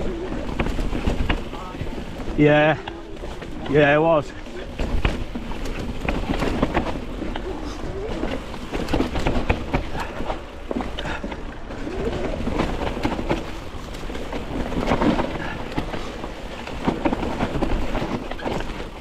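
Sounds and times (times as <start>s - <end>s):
bike rattles and knocks: 0.0s - 19.0s
bike tyres on dirt trail: 0.0s - 19.0s
wind rumble on microphone: 0.0s - 19.0s.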